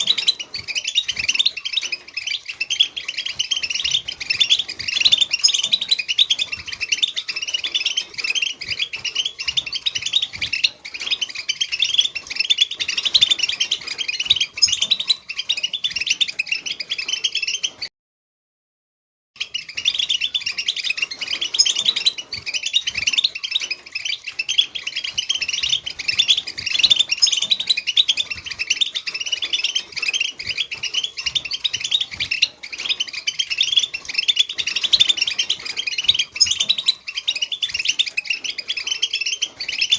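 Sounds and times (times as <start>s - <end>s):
finches chattering and twittering: 0.0s - 17.9s, 19.4s - 39.9s.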